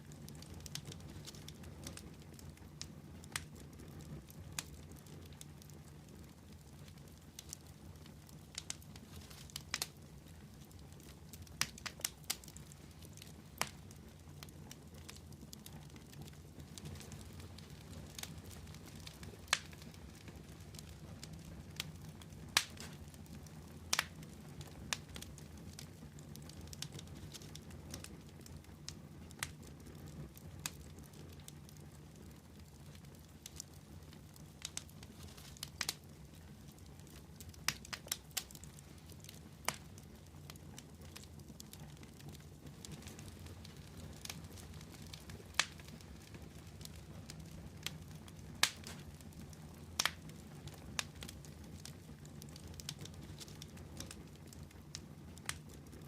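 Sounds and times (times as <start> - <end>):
fire crackles and pops: 0.0 - 56.0
wood fire rumbling: 0.0 - 56.0.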